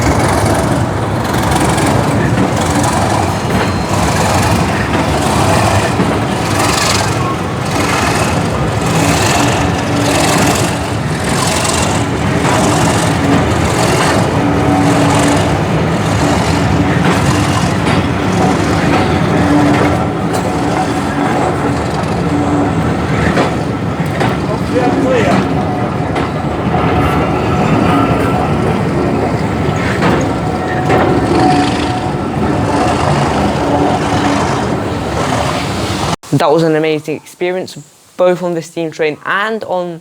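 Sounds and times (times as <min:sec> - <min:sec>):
steady low hum: 0:00.0 - 0:36.3
rhythmic hissing beat: 0:00.0 - 0:36.5
train moving slowly: 0:00.0 - 0:40.0.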